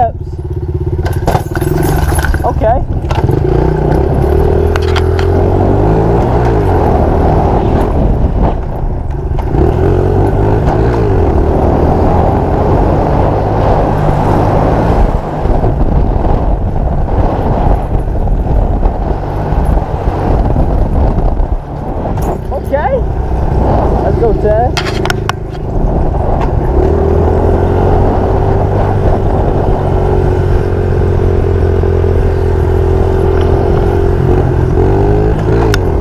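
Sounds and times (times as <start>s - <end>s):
off-road vehicle engine revving: 0.0s - 17.8s, 18.4s - 36.0s.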